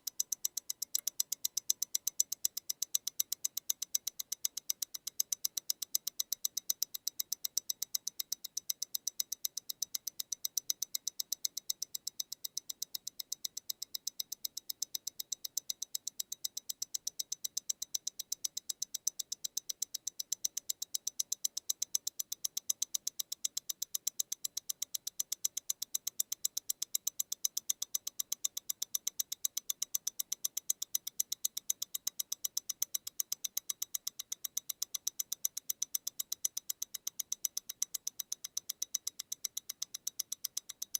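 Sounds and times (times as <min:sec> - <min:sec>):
wristwatch ticking: 0:00.0 - 0:40.9.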